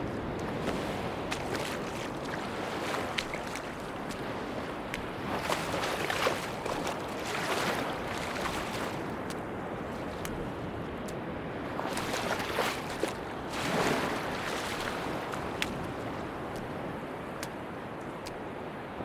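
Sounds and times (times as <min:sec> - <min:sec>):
sea waves washing onto beach: 0:00.0 - 0:19.0.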